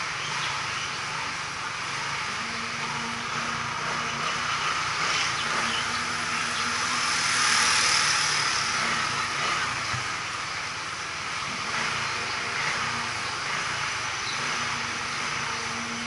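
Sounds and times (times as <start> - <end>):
faint low engine hum: 0.0 - 16.0
street traffic hiss: 0.0 - 16.0.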